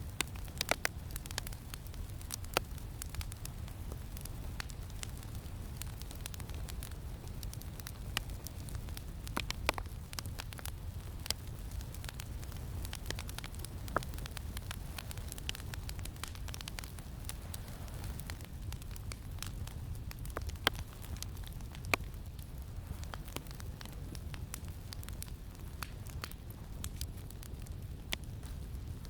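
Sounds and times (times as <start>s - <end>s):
campfire crackling and popping: 0.0s - 29.0s
low wind rumble: 0.0s - 29.0s.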